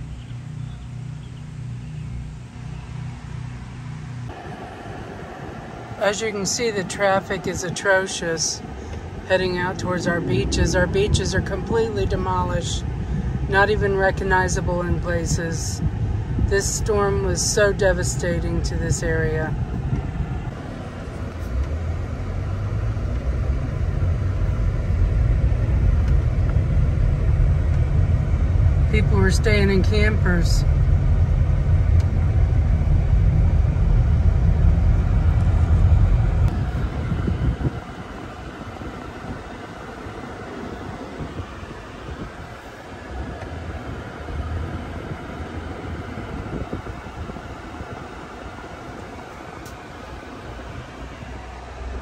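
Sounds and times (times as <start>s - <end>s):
car engine and tyre rumble: 0.0s - 52.0s
steady road hiss: 0.0s - 52.0s.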